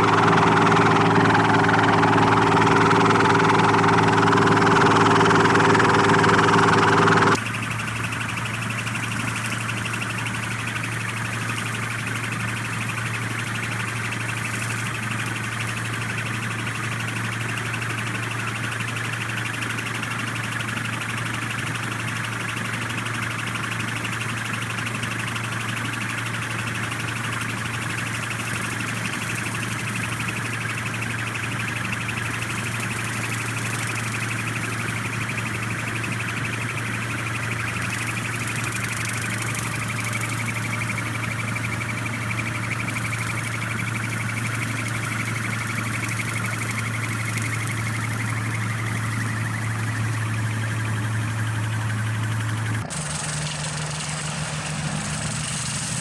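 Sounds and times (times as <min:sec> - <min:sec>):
high siren-like whine: 0:00.0 - 0:56.0
machine low hum: 0:00.0 - 0:56.0.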